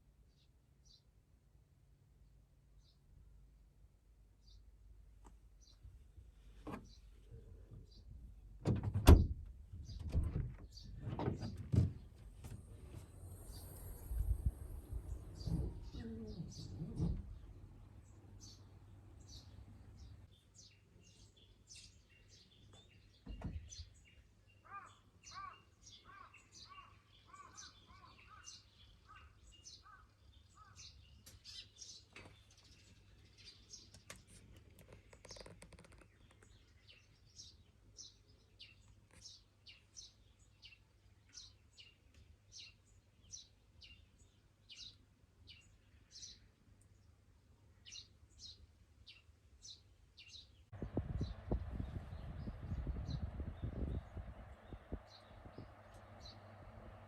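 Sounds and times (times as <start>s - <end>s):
faint birdsong: 0.0s - 57.0s.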